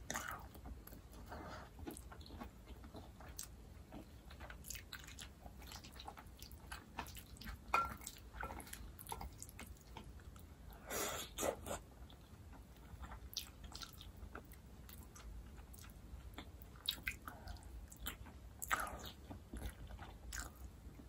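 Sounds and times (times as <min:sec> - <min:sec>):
close chewing of noodles: 0:00.0 - 0:21.0.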